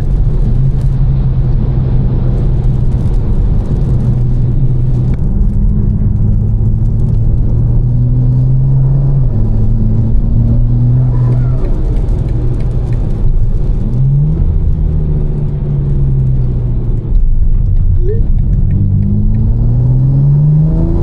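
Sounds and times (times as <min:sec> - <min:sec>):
car engine droning while driving: 0:00.0 - 0:21.0.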